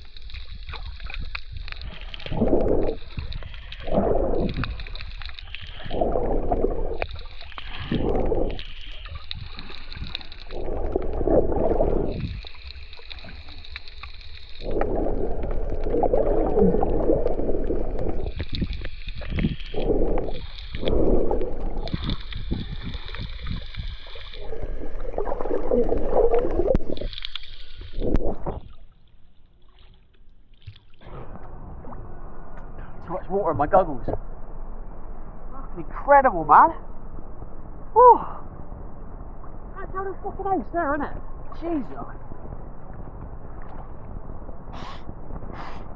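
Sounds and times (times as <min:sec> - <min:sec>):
water gurgling and sloshing: 0:00.0 - 0:45.9.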